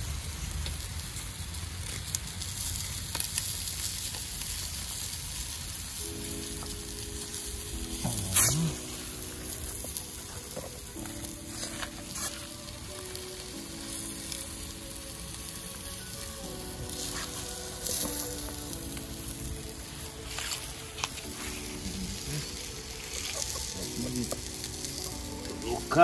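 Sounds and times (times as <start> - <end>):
fish sizzling on hot plate: 0.0 - 26.0.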